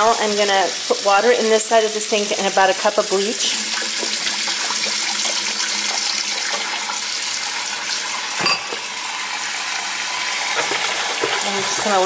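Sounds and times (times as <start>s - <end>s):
faucet water splashing into sink: 0.0s - 12.0s.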